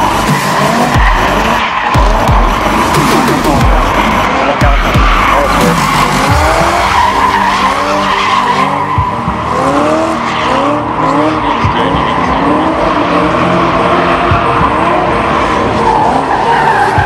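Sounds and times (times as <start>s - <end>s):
car engine revving: 0.0s - 17.0s
tyres skidding: 0.0s - 17.0s.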